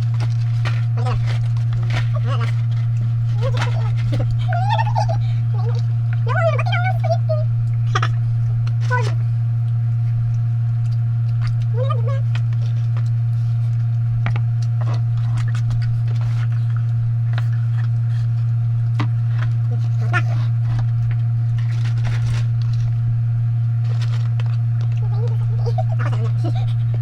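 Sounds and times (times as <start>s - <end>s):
faint clicks and crackles: 0.0s - 6.3s, 7.6s - 27.0s
steady low hum: 0.0s - 27.0s.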